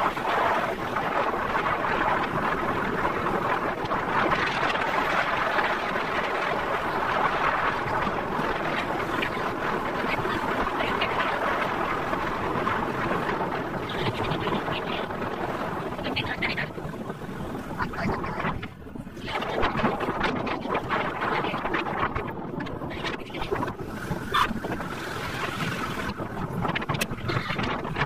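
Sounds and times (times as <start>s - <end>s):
air and tyre noise: 0.0s - 28.0s.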